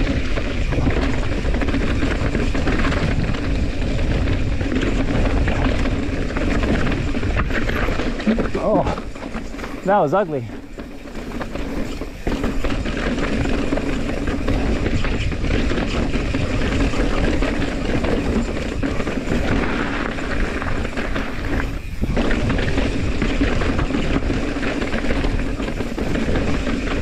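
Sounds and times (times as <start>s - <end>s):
bike rattling: 0.0s - 27.0s
bike tyres rolling over rock: 0.0s - 27.0s.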